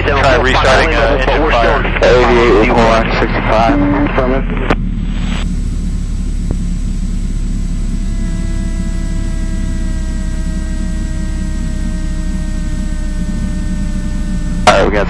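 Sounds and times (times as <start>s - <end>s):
faint steady whine: 0.0s - 15.0s
propeller engine droning: 0.0s - 15.0s.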